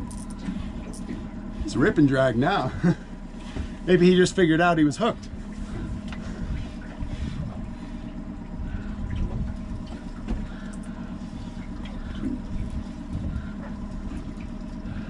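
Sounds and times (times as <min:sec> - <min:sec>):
faint water sounds: 0:00.0 - 0:15.0
outboard motor running: 0:00.0 - 0:15.0.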